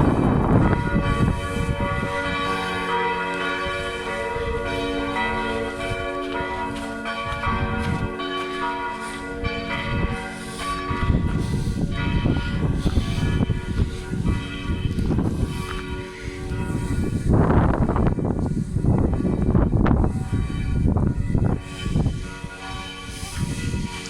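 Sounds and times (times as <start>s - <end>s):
church bells pealing: 0.0s - 24.0s.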